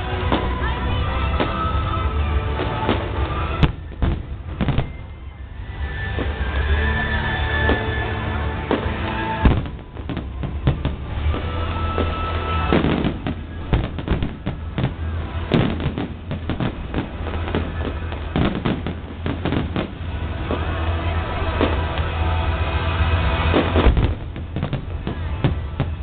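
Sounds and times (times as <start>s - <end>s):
fireworks banging: 0.0s - 26.0s.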